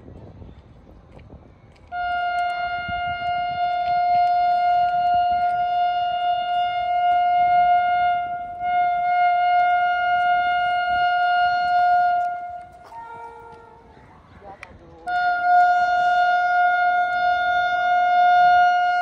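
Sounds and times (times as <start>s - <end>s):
locomotive air horn: 1.8s - 14.0s, 15.1s - 19.0s.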